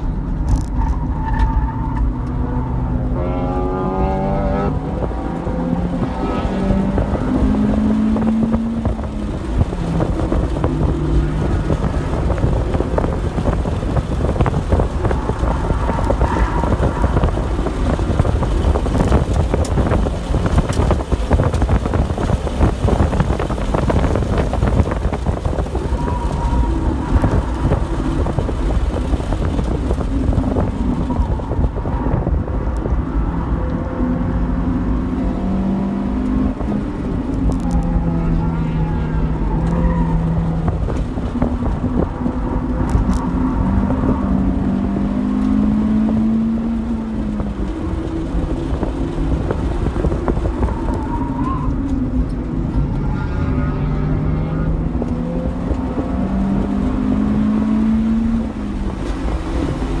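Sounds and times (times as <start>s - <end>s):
car engine revving: 0.0s - 60.0s
road and wind rumble: 0.0s - 60.0s.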